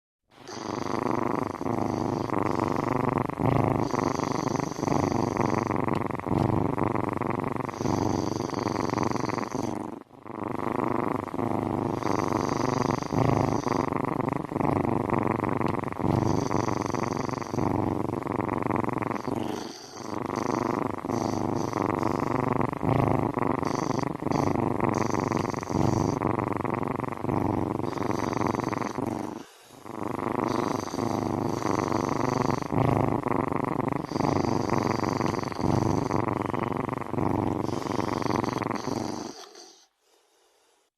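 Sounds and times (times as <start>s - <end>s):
cat purring: 0.3s - 40.2s.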